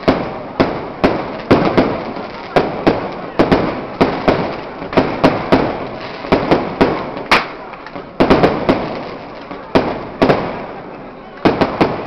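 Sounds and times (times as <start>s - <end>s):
firework shells bursting: 0.0s - 10.7s.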